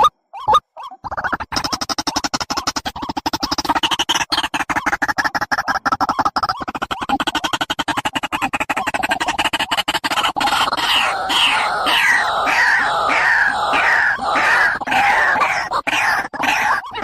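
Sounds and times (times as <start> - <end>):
downward-sliding bird calls: 0.0 - 17.0
rattling bird trill: 0.0 - 17.0.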